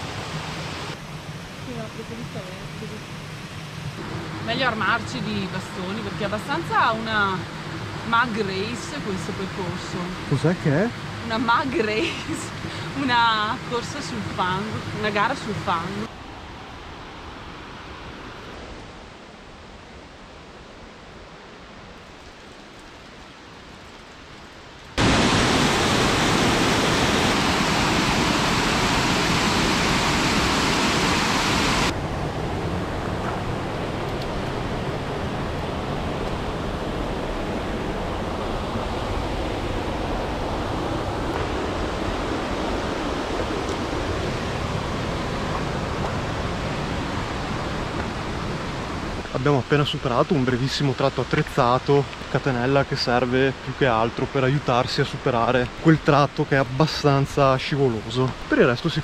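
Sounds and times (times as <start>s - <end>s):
steady rushing outdoor noise: 0.0s - 59.0s.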